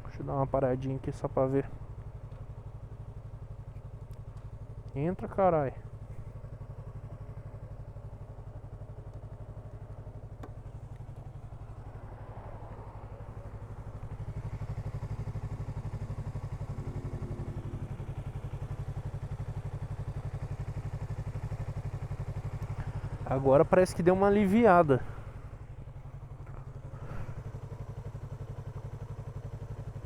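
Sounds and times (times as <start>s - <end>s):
motorcycle engine running at low revs: 0.0s - 30.0s.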